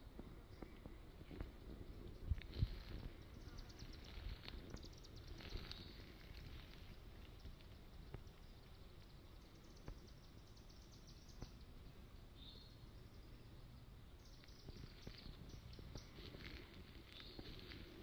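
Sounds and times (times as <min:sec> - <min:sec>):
bird chirp: 0:00.4 - 0:18.0.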